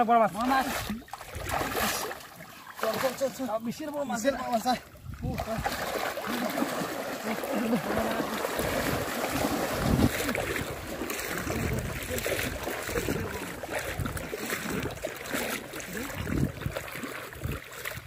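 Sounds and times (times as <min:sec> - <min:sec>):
people wading through splashing water: 0:00.0 - 0:18.0.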